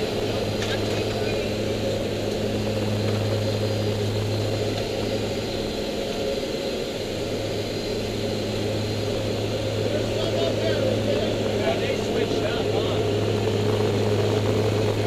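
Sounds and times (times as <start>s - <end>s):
turboprop engines droning in cabin: 0.0s - 15.0s.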